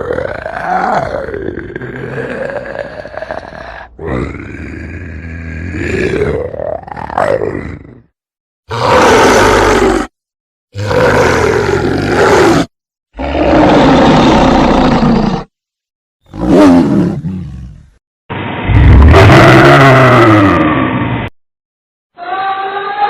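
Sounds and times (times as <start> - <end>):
dinosaur roars: 0.0 - 8.1, 8.7 - 10.1, 10.7 - 15.5, 16.3 - 21.3.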